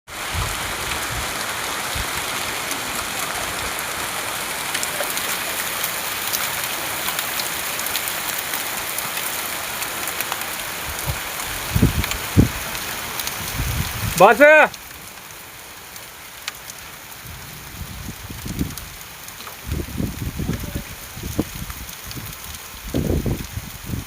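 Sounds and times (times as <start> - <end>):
rain hissing: 0.1 - 24.0
raindrops ticking: 0.1 - 24.0.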